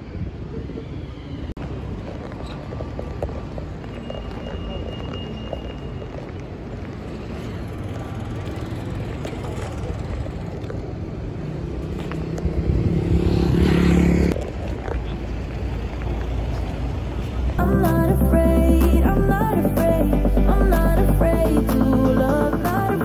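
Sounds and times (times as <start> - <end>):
rumble of street traffic: 0.0 - 23.0.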